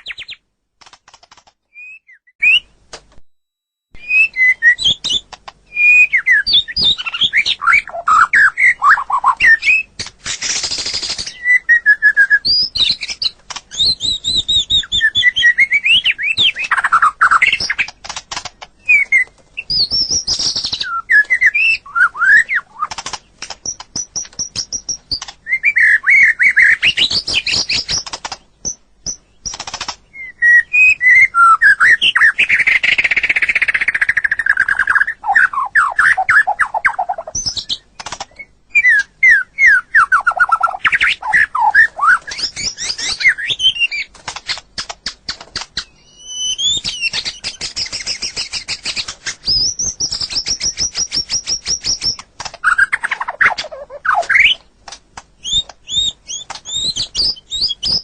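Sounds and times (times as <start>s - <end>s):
bird singing whistled song: 0.0s - 0.4s, 1.7s - 2.8s, 4.0s - 17.9s, 18.8s - 23.0s, 23.6s - 44.1s, 45.8s - 54.6s, 55.4s - 58.0s.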